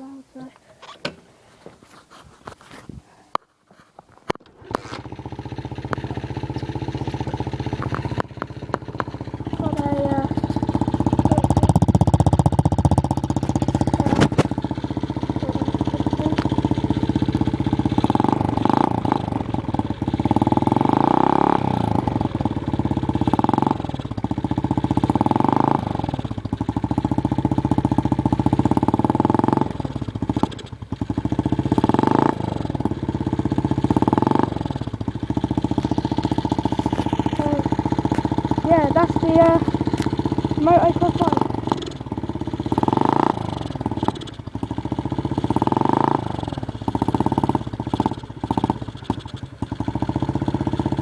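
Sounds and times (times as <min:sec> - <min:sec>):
motocross bike engine revving: 0:04.4 - 0:51.0.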